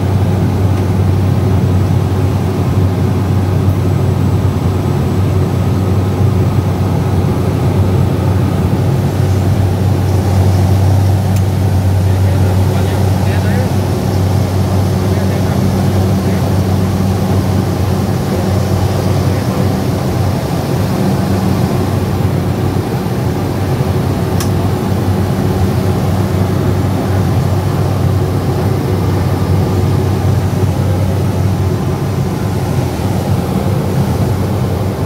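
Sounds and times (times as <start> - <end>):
turboprop engine droning in flight: 0.0 - 35.0.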